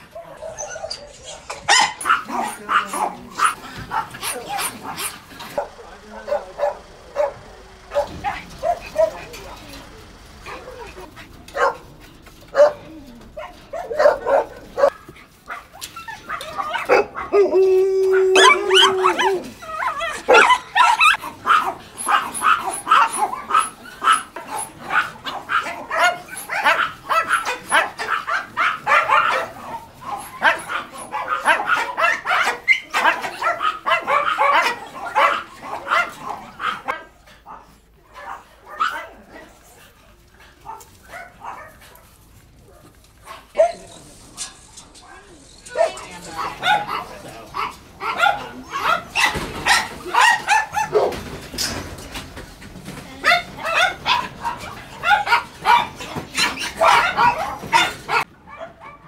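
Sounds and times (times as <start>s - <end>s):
many dogs barking: 0.0s - 59.0s.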